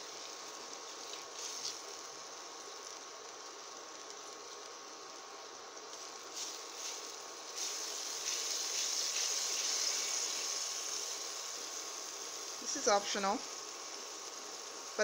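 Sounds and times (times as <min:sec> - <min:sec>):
juice sizzling in hot oil: 0:00.0 - 0:15.0.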